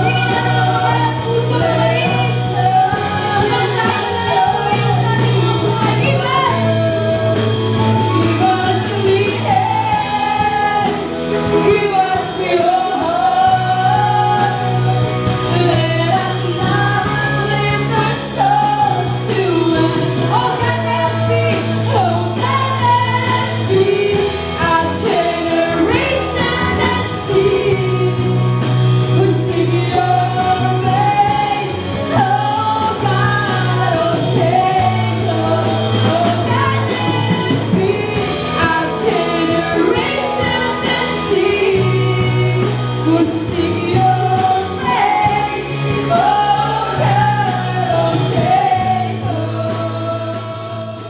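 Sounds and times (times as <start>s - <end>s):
drums with cymbals: 0.0s - 51.0s
electric guitar: 0.0s - 51.0s
keyboard: 0.0s - 51.0s
women singing into microphones: 0.0s - 51.0s.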